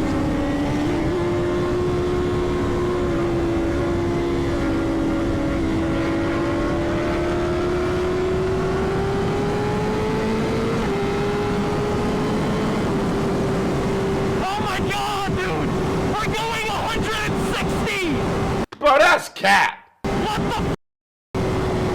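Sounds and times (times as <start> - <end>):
motorcycle engine at high revs: 0.0 - 14.6, 15.2 - 18.7, 21.4 - 21.9
rush of wind: 0.0 - 18.6.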